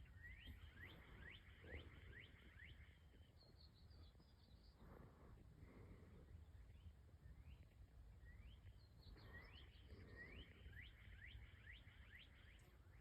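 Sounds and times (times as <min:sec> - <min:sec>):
songbird whistling song: 0:00.0 - 0:04.7, 0:06.7 - 0:13.0.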